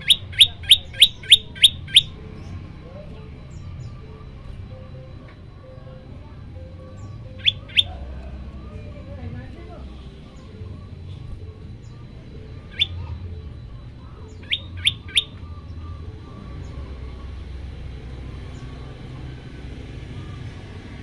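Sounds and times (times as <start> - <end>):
bird calling rising notes: 0.0 - 9.2, 9.8 - 20.8
steady low rumble: 0.0 - 21.0.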